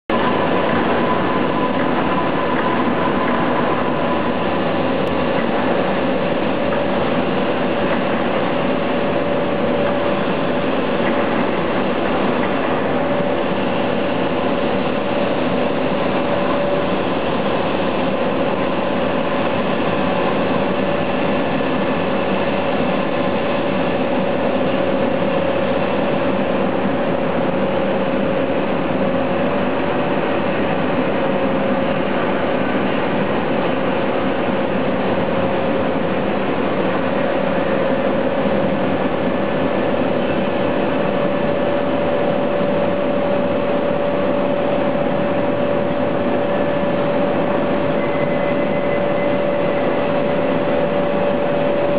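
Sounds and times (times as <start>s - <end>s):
machinery humming: 0.1s - 51.9s.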